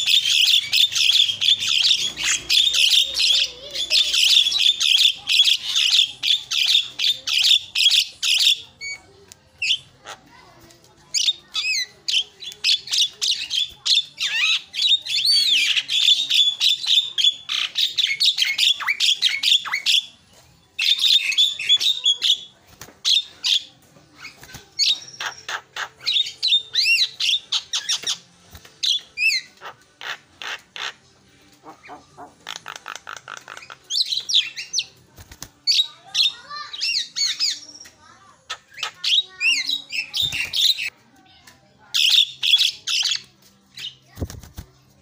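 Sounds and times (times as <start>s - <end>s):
bird singing harsh chatter: 0.0s - 10.4s, 11.0s - 40.9s, 41.9s - 45.0s.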